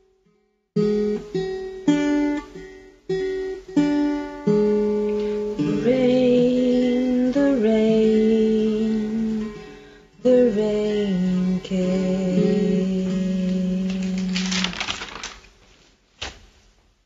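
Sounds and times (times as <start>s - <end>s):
acoustic guitar strumming chords: 0.8s - 14.4s.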